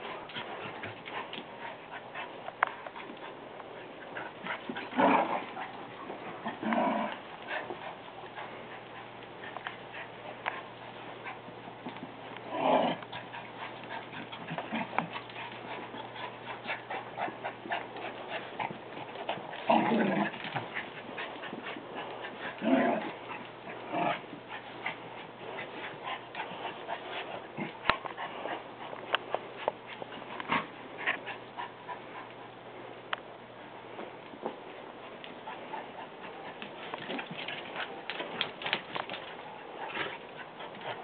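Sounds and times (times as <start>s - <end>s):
clicks and scuffles of paws and toy: 0.0s - 32.4s, 33.9s - 41.0s
faint low hum: 0.0s - 41.0s.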